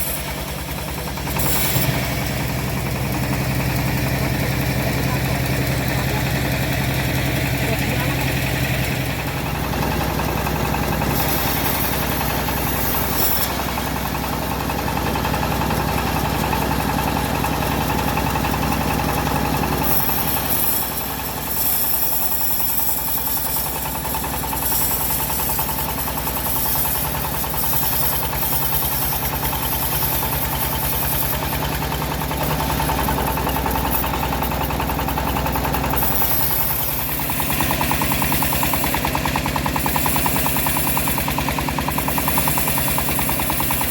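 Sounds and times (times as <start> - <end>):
sawmill engine running: 0.0 - 43.9.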